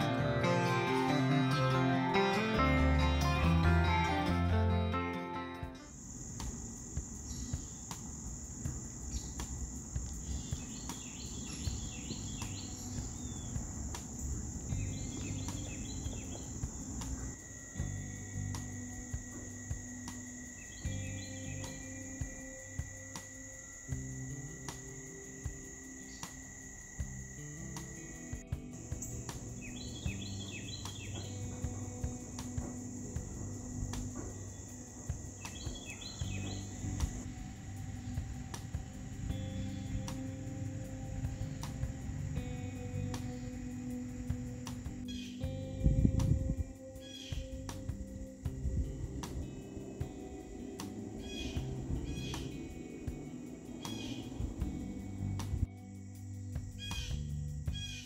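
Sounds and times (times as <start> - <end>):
crickets trilling: 0.0 - 5.0, 5.7 - 58.0
low outdoor hum: 5.8 - 58.0
bird chirping: 6.0 - 58.0.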